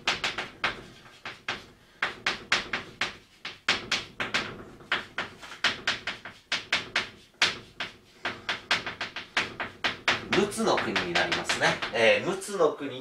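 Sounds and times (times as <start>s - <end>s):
chalk tapping and scratching: 0.0s - 12.0s.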